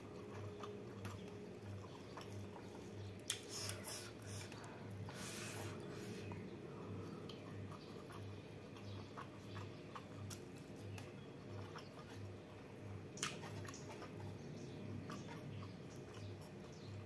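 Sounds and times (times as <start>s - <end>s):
chewing and wet mouth sounds: 0.0s - 17.0s
faint low hum: 0.0s - 17.0s.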